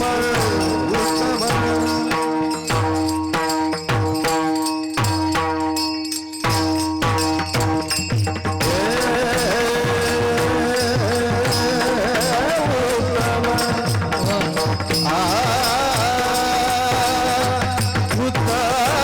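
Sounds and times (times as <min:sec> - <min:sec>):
person singing devotional song: 0:00.0 - 0:05.2, 0:07.6 - 0:19.0
hand drum beat: 0:00.0 - 0:05.8, 0:06.4 - 0:19.0.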